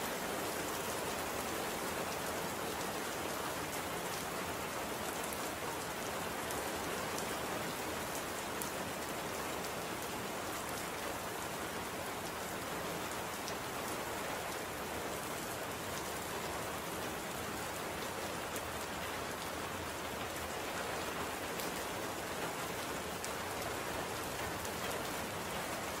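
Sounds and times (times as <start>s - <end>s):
steady rain hissing: 0.0s - 26.0s
raindrops ticking on a surface: 0.4s - 26.0s.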